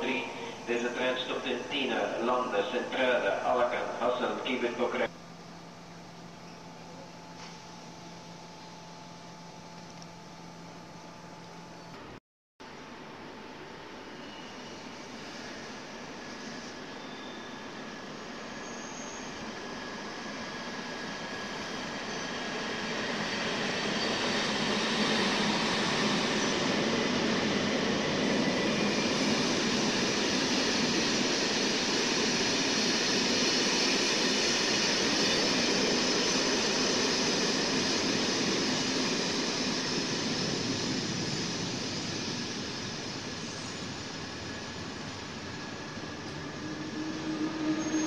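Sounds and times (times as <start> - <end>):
passenger train passing: 0.0 - 6.3, 13.0 - 48.0.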